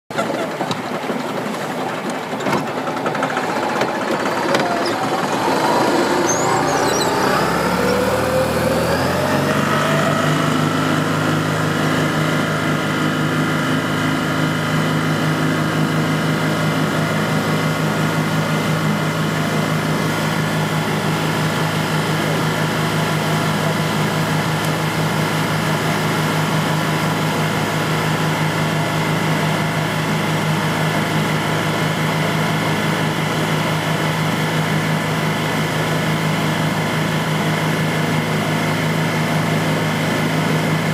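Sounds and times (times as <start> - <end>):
outboard motor speeding up: 0.0 - 40.9.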